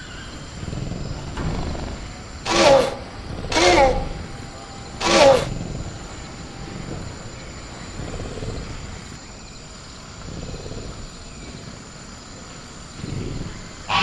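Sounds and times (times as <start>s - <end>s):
crickets droning: 0.0s - 14.0s
distant creature calls: 0.0s - 14.0s.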